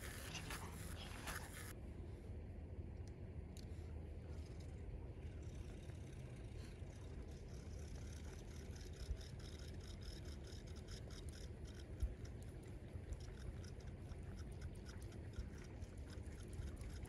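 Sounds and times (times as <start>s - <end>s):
fishing reel ticking whir: 0.0s - 1.7s, 4.2s - 17.0s.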